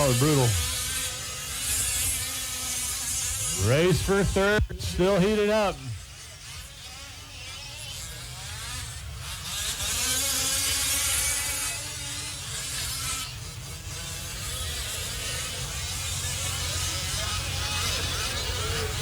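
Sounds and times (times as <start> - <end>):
small two-stroke engines buzzing: 0.0 - 19.0.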